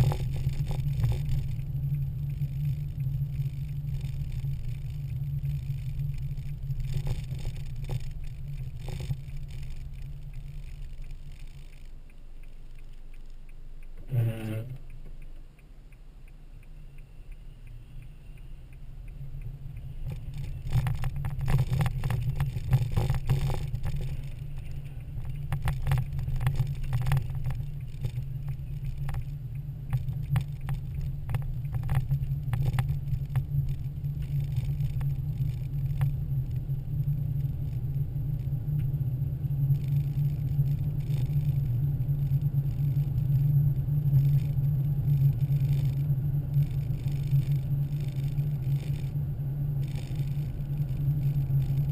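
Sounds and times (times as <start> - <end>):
car engine and tyre rumble: 0.0 - 51.9
sharp clicks and ticks: 0.0 - 51.9.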